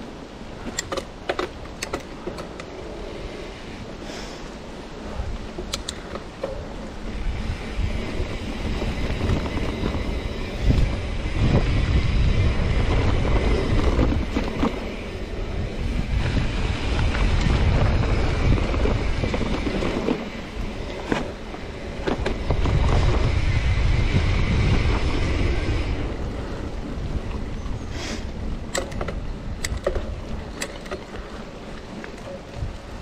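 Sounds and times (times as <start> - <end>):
bike tyres on dirt: 0.0 - 33.0
bike clicks and rattles: 0.5 - 3.5, 4.4 - 33.0
wind buffeting microphone: 4.6 - 33.0.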